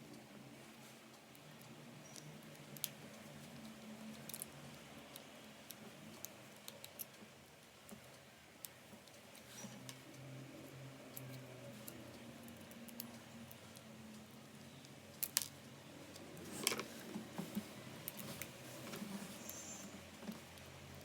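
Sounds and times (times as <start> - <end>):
low background hum: 0.0 - 21.0
small parts clicking and tapping: 1.2 - 10.2, 11.1 - 21.0.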